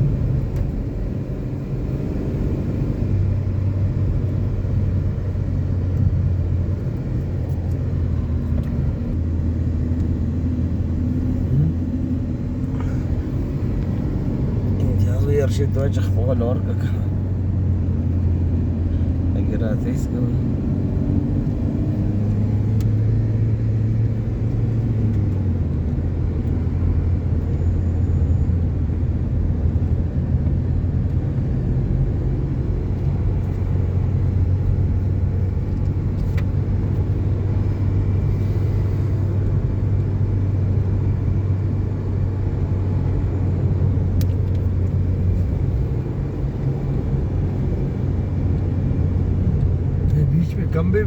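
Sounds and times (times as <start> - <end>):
car engine and tyre drone: 0.0 - 51.0.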